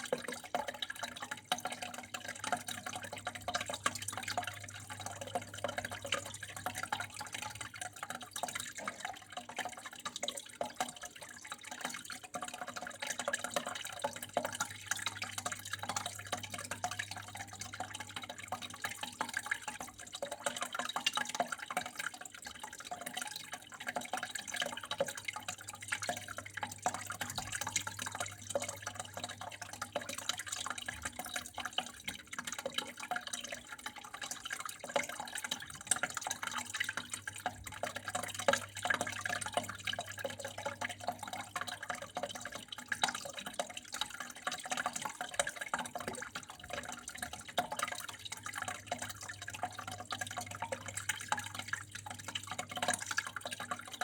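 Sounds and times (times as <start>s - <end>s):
small splashes and drips: 0.0s - 54.0s
water flowing and trickling: 0.0s - 54.0s.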